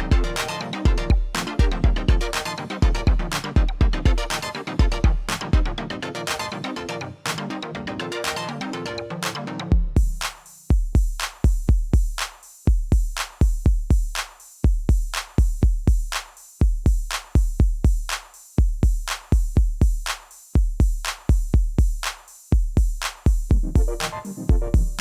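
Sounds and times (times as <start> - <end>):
drum machine beat: 0.0 - 6.6, 9.2 - 25.0.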